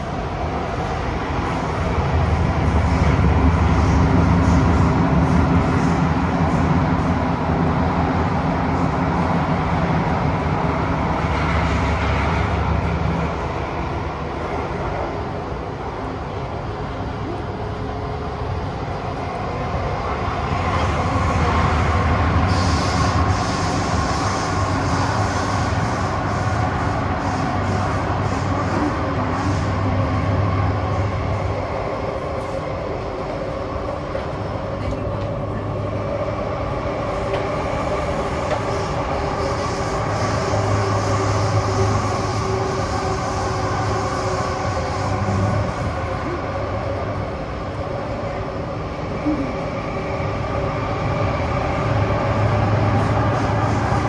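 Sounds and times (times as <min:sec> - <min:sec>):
train hum: 0:00.0 - 0:54.0
wheels rumbling on rail: 0:00.0 - 0:54.0.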